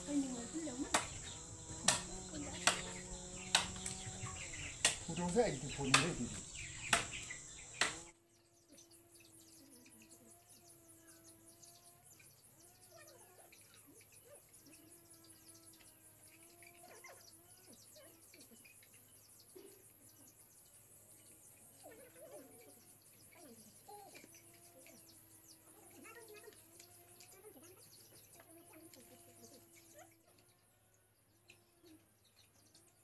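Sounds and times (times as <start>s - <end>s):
high insect drone: 0.0s - 8.1s, 8.8s - 30.2s
birds calling: 0.0s - 33.0s.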